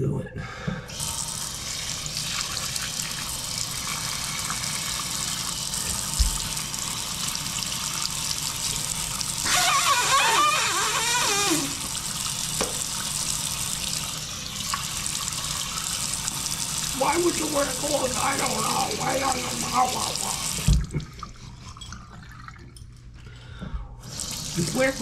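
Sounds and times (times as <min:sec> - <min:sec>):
faucet running into basin: 0:00.9 - 0:22.8, 0:24.0 - 0:25.0.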